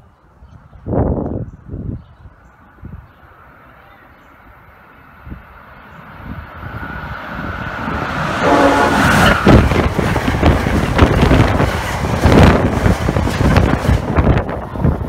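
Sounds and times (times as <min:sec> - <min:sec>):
wind buffeting microphone: 0:00.4 - 0:03.2, 0:05.2 - 0:15.0
train passing at speed: 0:02.8 - 0:15.0.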